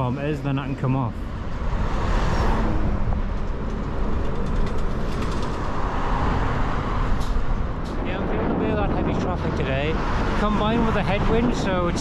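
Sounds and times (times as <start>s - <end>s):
motor traffic passing: 1.2s - 12.0s
wind rumbling on microphone: 1.2s - 12.0s.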